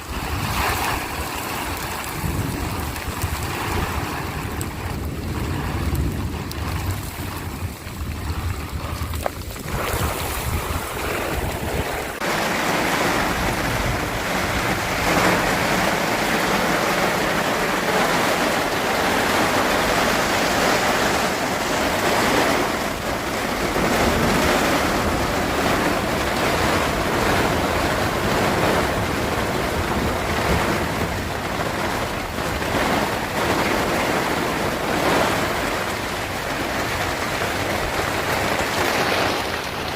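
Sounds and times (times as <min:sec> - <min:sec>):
rushing storm noise: 0:00.0 - 0:39.9
wind buffeting on microphone: 0:00.0 - 0:39.9.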